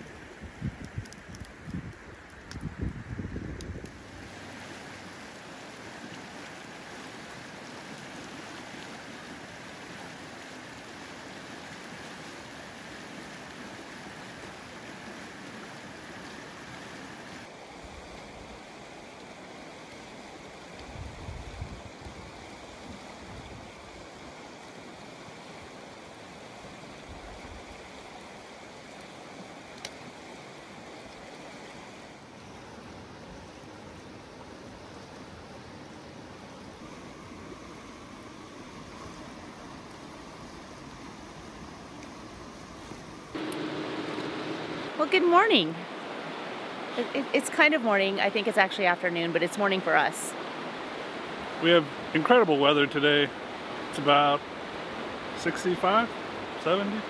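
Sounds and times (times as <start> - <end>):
river rushing: 3.9 - 57.0.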